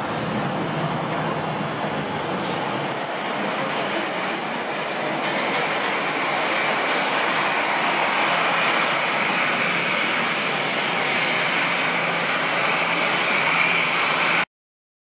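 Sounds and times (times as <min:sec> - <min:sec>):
jet engines at takeoff thrust: 0:00.0 - 0:14.5.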